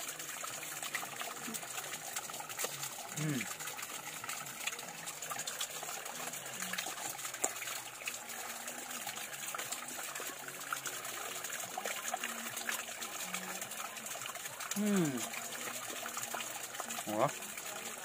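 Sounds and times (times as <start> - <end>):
small splashes and drips: 0.0 - 18.0
stream water flowing: 0.0 - 18.0.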